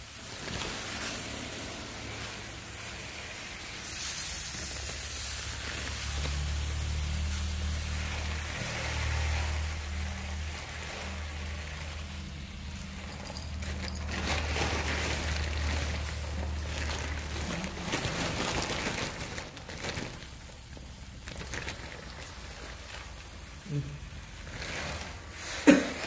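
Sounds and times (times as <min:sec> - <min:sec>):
rice grains pouring into tub: 0:00.0 - 0:26.0.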